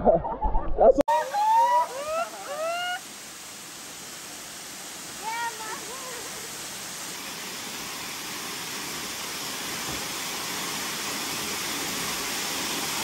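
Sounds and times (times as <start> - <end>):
waterfall pouring into pool: 1.1 - 13.0.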